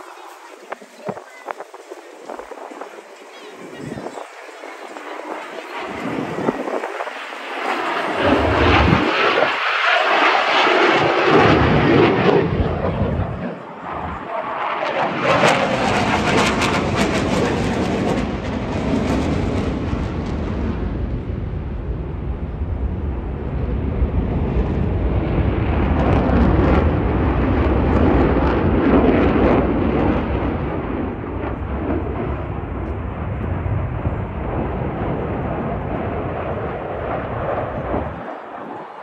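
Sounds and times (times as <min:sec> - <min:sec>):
aircraft engine rumbling overhead: 0:00.0 - 0:39.0.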